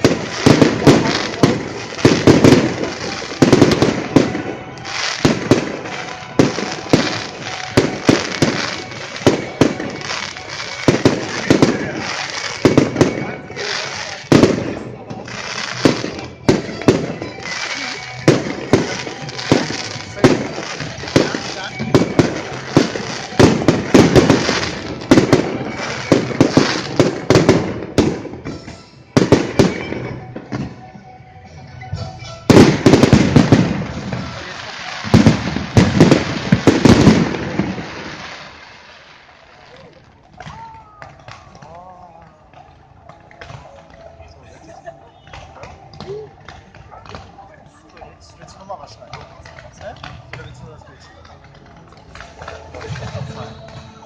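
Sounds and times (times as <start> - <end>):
fireworks bangs and booms: 0.0 - 30.9, 31.9 - 44.1, 51.9 - 54.0
fireworks crackling: 0.0 - 30.9, 31.8 - 54.0.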